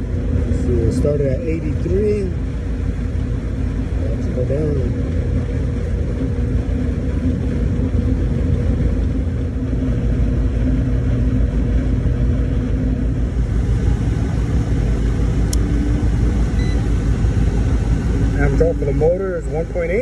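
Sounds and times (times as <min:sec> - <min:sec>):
air conditioner low rumble and hum: 0:00.0 - 0:20.0.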